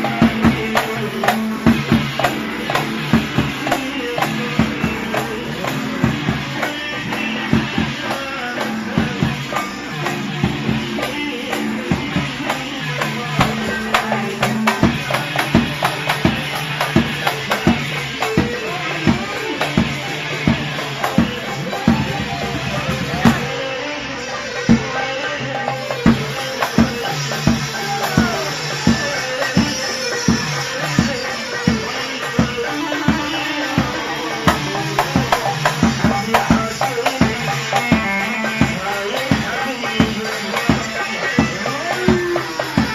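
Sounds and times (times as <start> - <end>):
live instrumental band music: 0.0 - 42.9
percussion strikes: 0.0 - 42.9.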